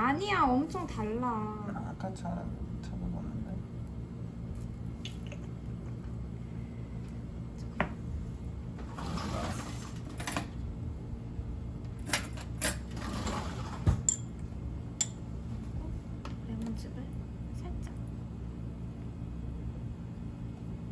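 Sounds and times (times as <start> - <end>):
low room hum: 0.0 - 20.9.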